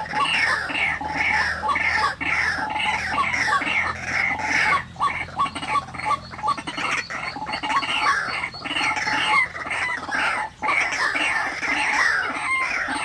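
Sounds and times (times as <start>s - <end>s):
waterhen calling hoarse notes: 0.0s - 13.0s.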